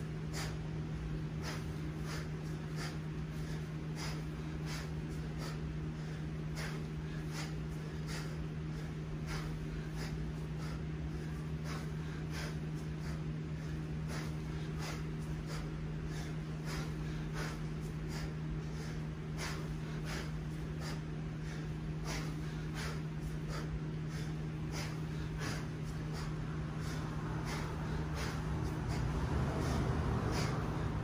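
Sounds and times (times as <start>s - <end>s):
man breathing forcefully: 0.0s - 31.0s
steady low hum: 0.0s - 31.0s.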